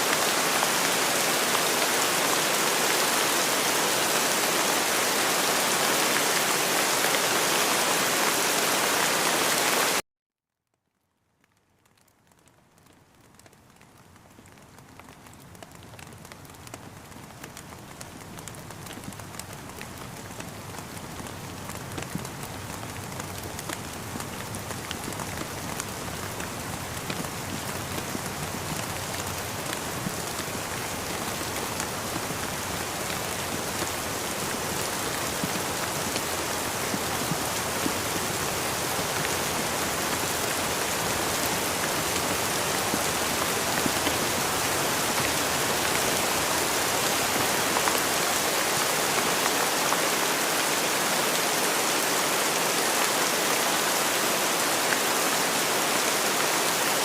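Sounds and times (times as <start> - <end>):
steady rain with tapping drops: 0.0 - 10.0, 10.7 - 57.0.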